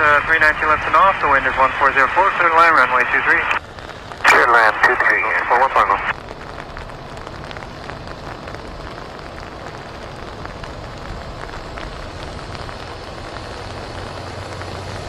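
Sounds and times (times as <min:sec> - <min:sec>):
steady rain falling: 0:00.0 - 0:15.0
raindrops ticking on a surface: 0:00.2 - 0:15.0.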